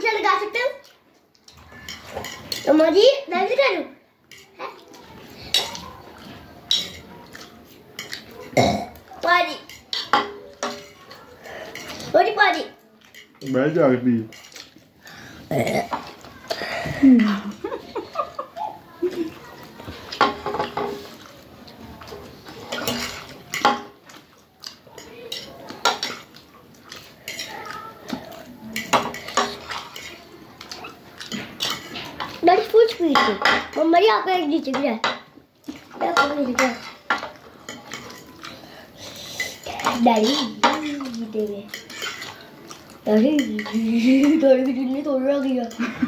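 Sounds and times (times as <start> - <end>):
spoons clinking on plates: 0.8 - 3.6, 4.2 - 15.2, 15.8 - 46.0.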